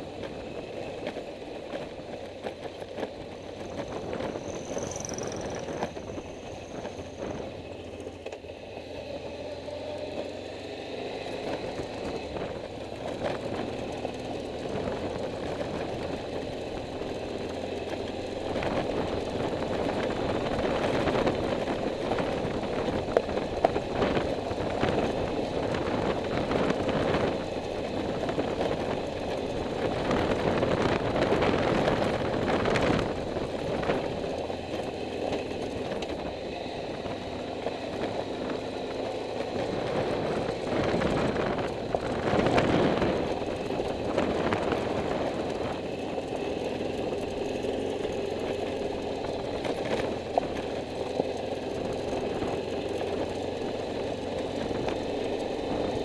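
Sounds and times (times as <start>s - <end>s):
road noise: 0.0s - 56.0s
vehicle engine running: 0.0s - 56.0s.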